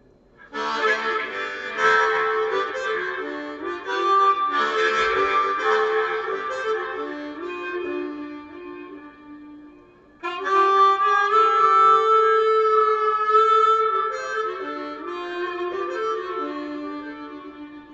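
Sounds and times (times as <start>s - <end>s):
harmonica playing blues: 0.4s - 17.9s.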